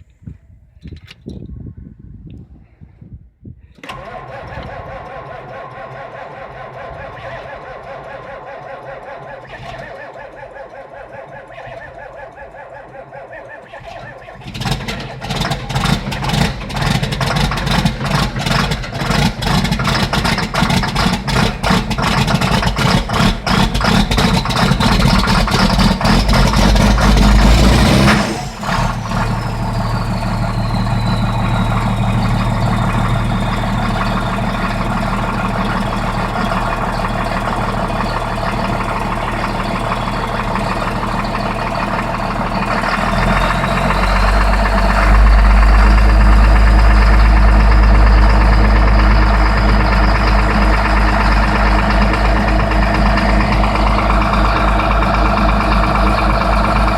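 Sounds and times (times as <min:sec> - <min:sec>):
diesel engine running with whine: 0:03.8 - 0:56.9
starter cranking diesel engine: 0:03.8 - 0:56.9.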